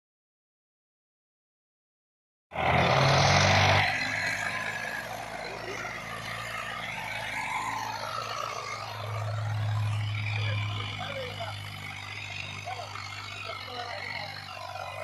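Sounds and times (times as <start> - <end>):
diesel tractor engine running: 2.5 - 15.0.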